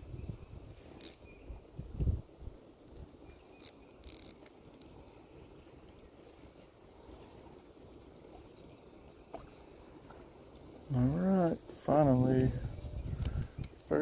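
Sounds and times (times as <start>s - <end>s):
insects: 0.0s - 14.0s.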